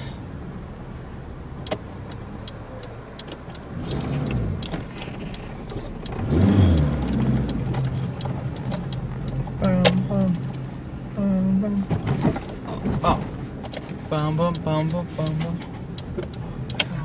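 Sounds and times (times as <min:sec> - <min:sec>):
car engine revving: 0:01.6 - 0:17.0.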